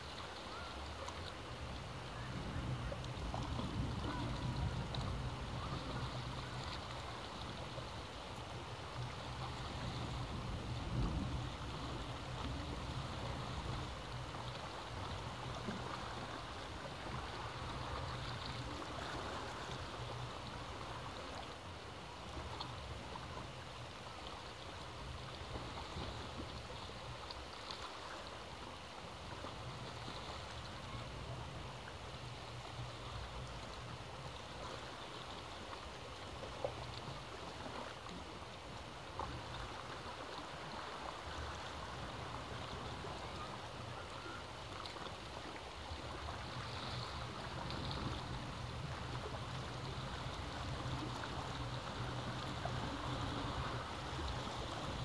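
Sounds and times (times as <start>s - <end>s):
sea waves washing: 0.0s - 55.0s.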